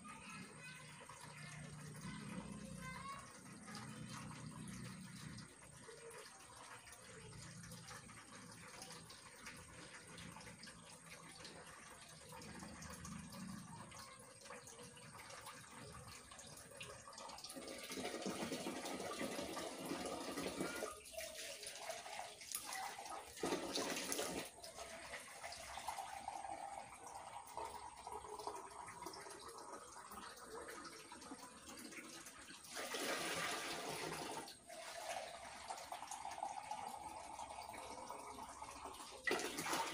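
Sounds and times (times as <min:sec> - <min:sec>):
tap water running into bucket: 0:00.0 - 0:39.9.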